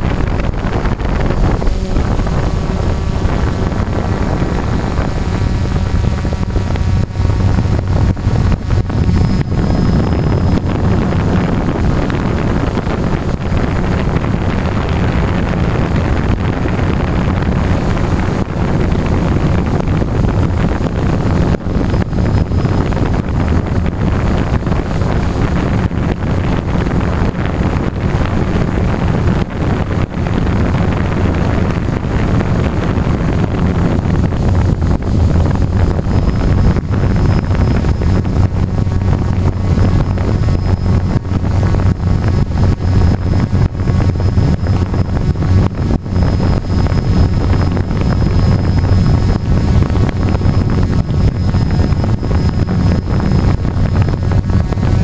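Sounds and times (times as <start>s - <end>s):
drone motors buzzing: 0.0s - 55.0s
wind buffeting microphone: 0.0s - 55.0s.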